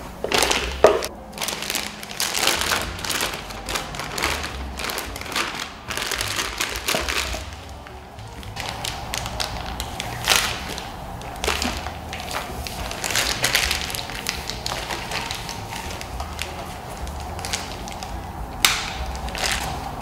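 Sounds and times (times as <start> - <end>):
plastic piping bag crinkling: 0.2 - 20.0.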